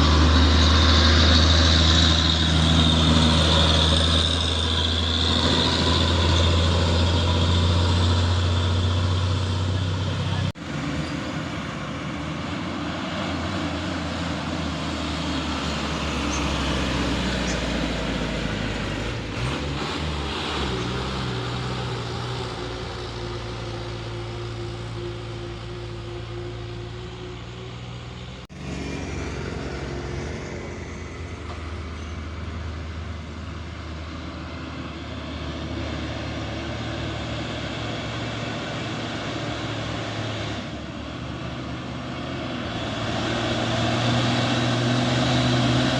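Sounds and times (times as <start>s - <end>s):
heavy truck engines: 0.0s - 45.9s
traffic noise: 0.0s - 45.9s.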